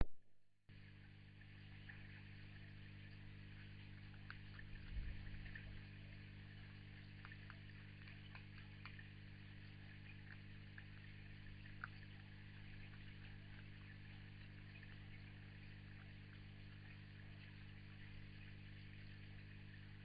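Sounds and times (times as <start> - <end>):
electrical hum with hiss: 0.7 - 20.0
faint ticks: 0.7 - 20.0.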